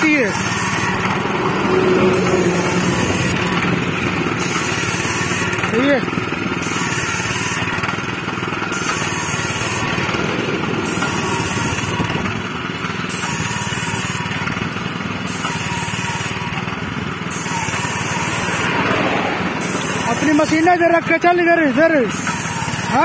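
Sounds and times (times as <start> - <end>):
small petrol engine running: 0.0 - 23.0.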